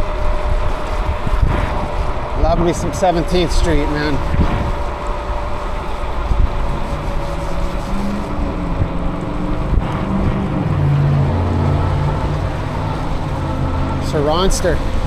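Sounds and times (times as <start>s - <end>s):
motor vehicle engine hum: 0.0s - 15.0s
road noise: 0.0s - 15.0s
wind on microphone: 0.0s - 15.0s.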